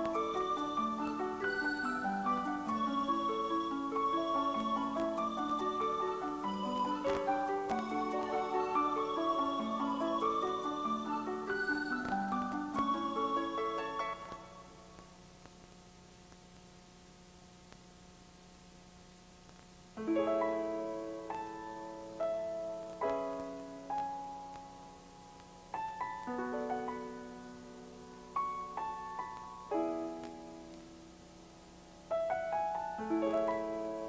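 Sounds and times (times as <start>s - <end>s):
slow piano chords: 0.0s - 15.0s, 20.0s - 34.0s
faint steady hum: 0.0s - 34.0s.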